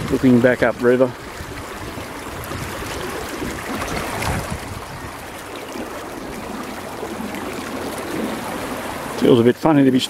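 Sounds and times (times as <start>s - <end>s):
river rushing in flood: 0.0s - 10.0s.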